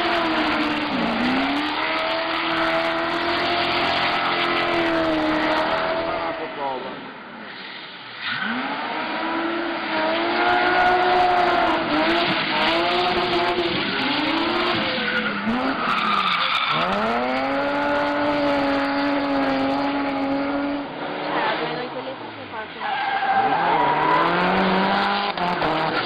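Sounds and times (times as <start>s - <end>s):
car engine revving: 0.0s - 6.9s, 8.4s - 22.1s, 23.3s - 26.0s.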